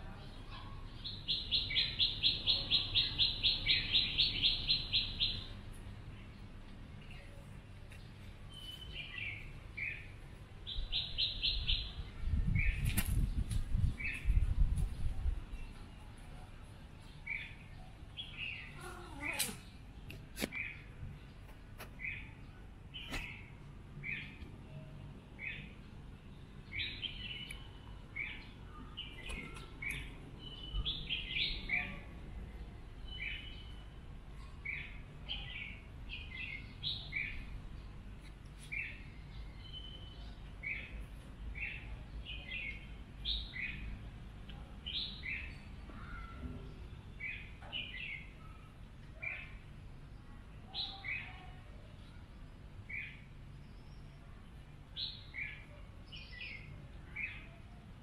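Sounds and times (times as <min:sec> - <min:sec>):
birds chirping: 0:00.0 - 0:57.7.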